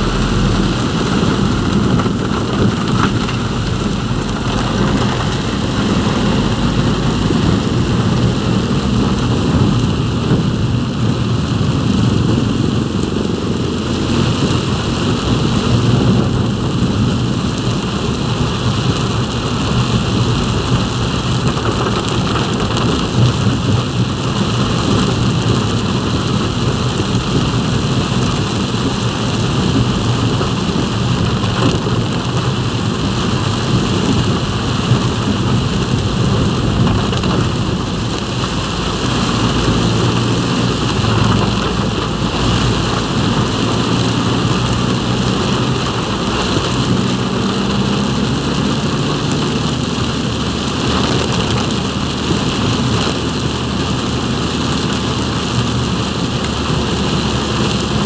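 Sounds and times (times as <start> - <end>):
engine rumble: 0.0 - 58.0
heavy rain on a vehicle: 0.0 - 58.0
wet road noise: 0.0 - 58.0.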